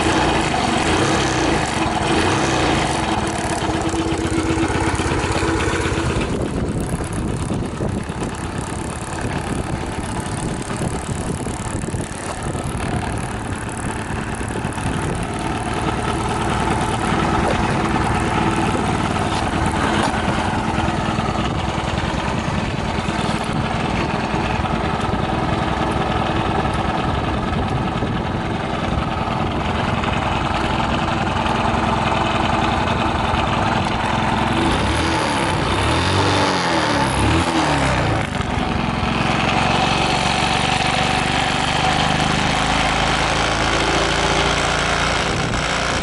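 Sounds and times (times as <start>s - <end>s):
two-stroke engine idling and revving: 0.0s - 46.0s.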